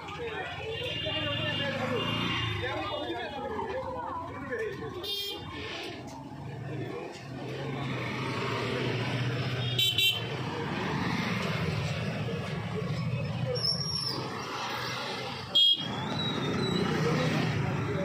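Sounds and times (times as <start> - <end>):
motorcycles passing by: 0.0 - 18.0.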